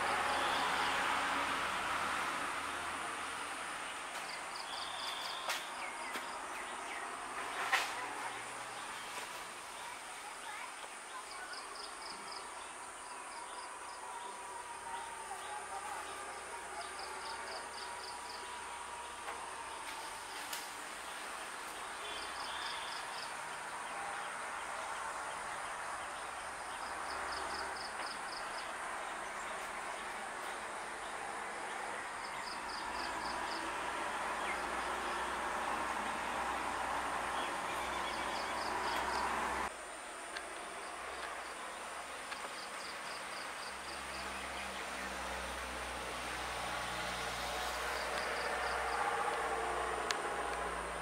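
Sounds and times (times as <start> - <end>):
outdoor background noise: 0.0 - 51.0
high insect drone: 8.4 - 51.0.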